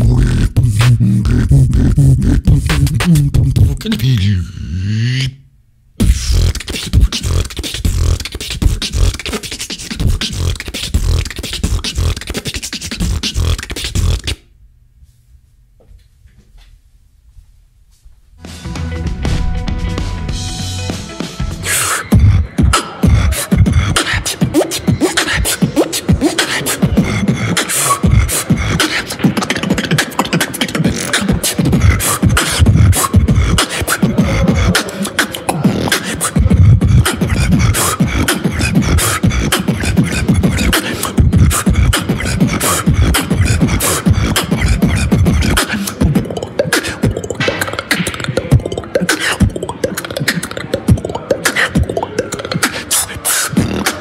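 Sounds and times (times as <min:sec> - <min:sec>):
man beatboxing: 0:00.0 - 0:05.4, 0:06.0 - 0:14.4, 0:20.8 - 0:54.0.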